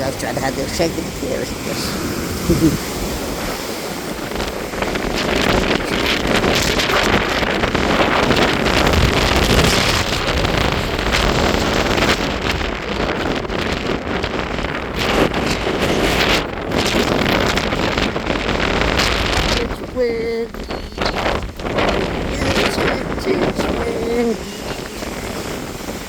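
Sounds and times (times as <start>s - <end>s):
sea waves breaking: 0.0s - 26.0s
wind buffeting microphone: 0.0s - 26.0s.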